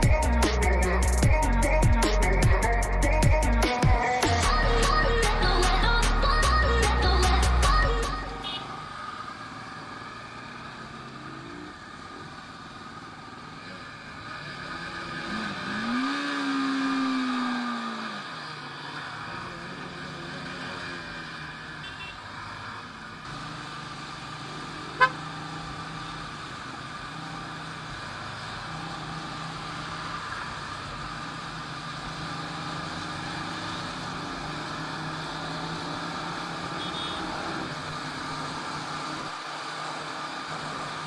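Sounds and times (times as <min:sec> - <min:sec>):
motorcycle engine cruising: 0:00.0 - 0:41.0.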